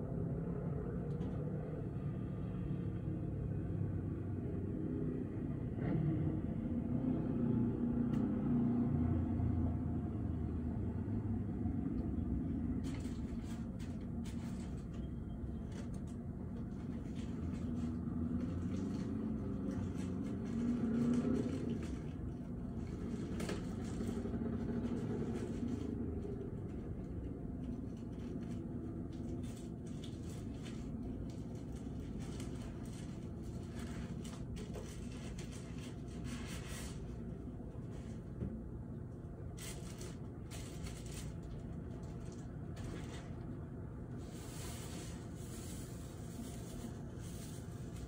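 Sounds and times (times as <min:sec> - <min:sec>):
low rumble of city traffic: 0:00.0 - 0:48.0.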